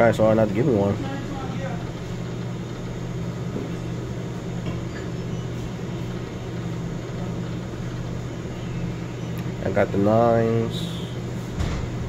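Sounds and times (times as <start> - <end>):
machine and room noise: 0.0 - 12.0
steady low hum: 0.0 - 12.0.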